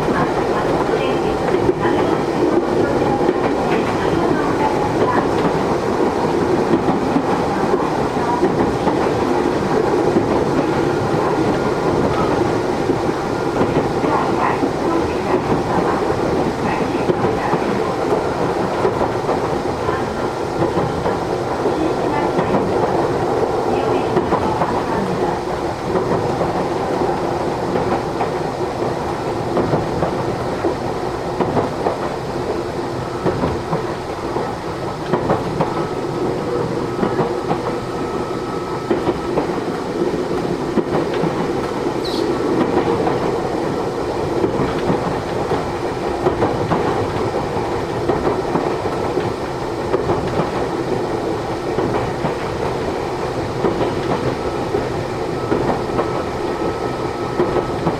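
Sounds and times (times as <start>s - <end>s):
train rumbling: 0.0s - 57.9s.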